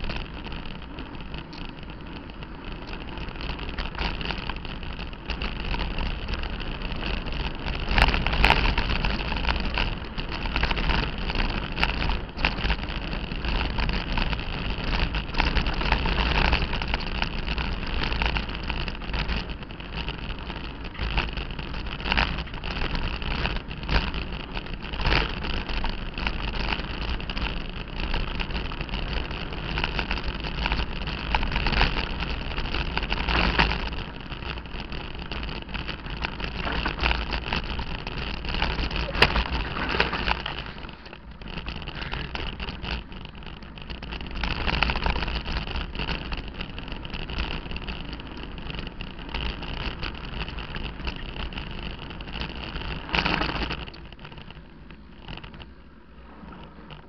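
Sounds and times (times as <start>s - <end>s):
bike frame rattling: 0.0s - 57.0s
wind buffeting microphone: 0.0s - 57.0s.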